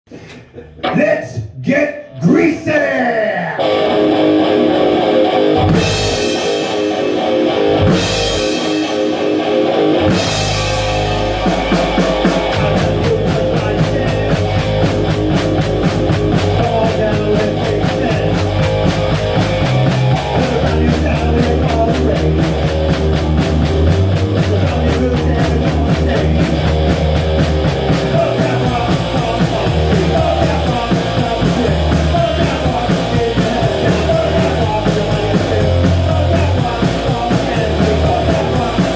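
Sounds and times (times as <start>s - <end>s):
bass guitar: 0.1s - 38.9s
electric guitar chords: 0.7s - 2.5s, 3.3s - 38.9s
drum kit playing fast beat: 4.7s - 38.9s.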